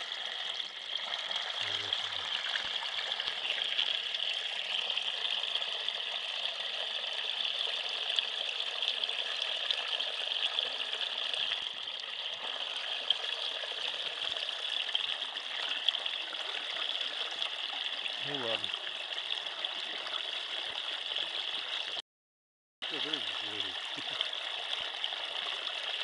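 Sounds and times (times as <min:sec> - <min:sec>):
water gurgling down ice hole: 0:00.0 - 0:22.0, 0:22.9 - 0:26.0.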